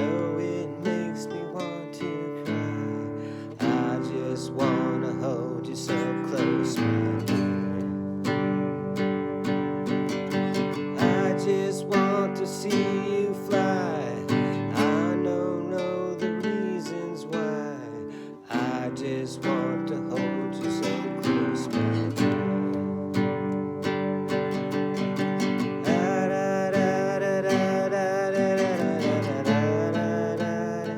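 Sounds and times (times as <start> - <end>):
acoustic guitar playing: 0.0 - 30.9.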